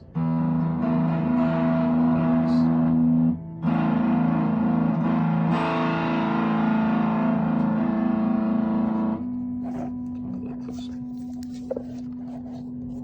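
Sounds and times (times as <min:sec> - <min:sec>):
distorted fuzz electric guitar: 0:00.0 - 0:10.6.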